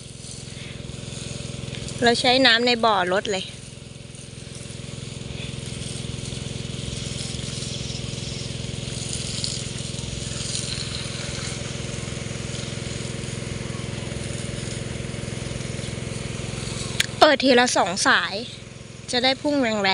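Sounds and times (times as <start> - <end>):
sprinkler spray hissing: 0.0 - 19.9
water pump motor droning: 0.0 - 19.9.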